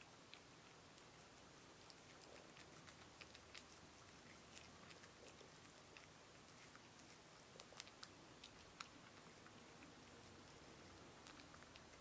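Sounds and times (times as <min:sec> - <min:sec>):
cat chewing corn kernels: 0:00.0 - 0:12.0.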